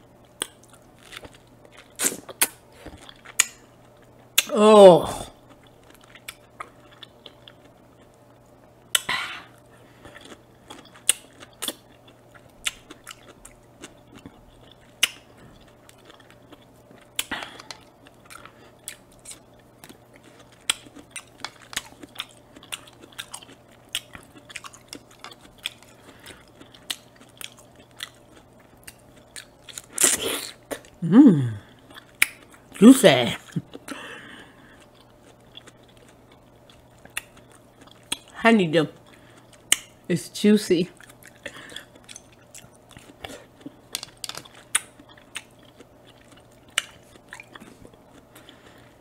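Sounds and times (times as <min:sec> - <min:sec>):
faint steady hum: 0:00.0 - 0:49.0
person chewing juicy fruit: 0:00.1 - 0:40.1, 0:40.8 - 0:49.0.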